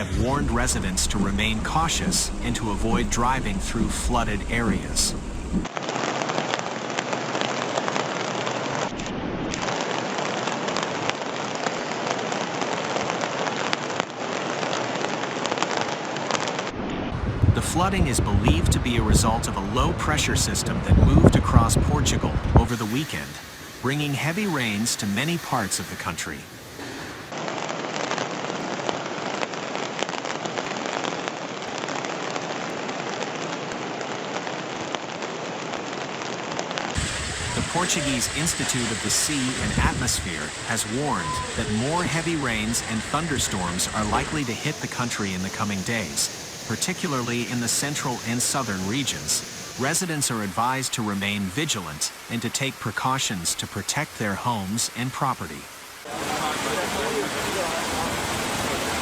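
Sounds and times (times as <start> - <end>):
heavy rain on hard surfaces: 0.0 - 59.0.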